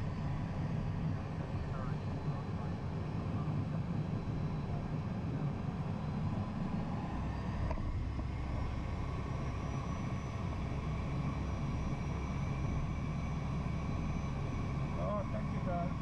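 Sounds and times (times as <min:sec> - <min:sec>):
jet engine rumble with whine: 0:00.0 - 0:16.0.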